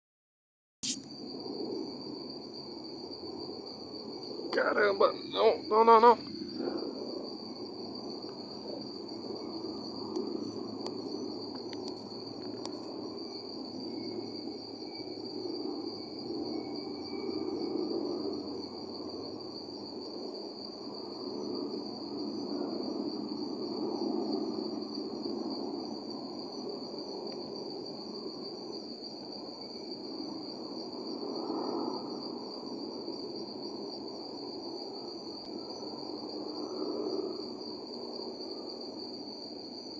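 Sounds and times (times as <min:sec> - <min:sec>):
crickets trilling: 0:00.8 - 0:39.9
low outdoor night hum: 0:00.8 - 0:39.9.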